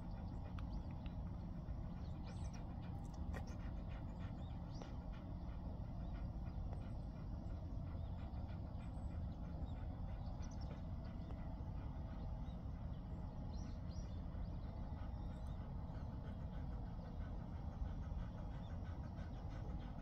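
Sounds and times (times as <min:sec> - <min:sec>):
dog panting: 0:00.0 - 0:20.0
low rumble of outdoor air: 0:00.0 - 0:20.0.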